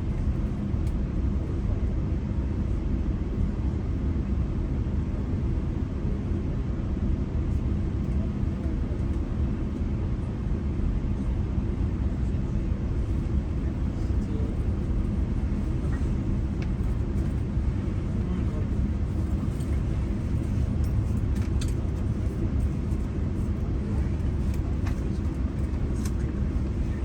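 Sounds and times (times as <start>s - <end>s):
train rumble inside coach: 0.0s - 27.0s.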